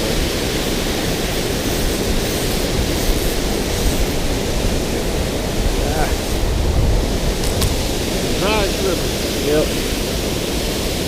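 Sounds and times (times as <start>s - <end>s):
water rushing through spillway: 0.0s - 11.0s.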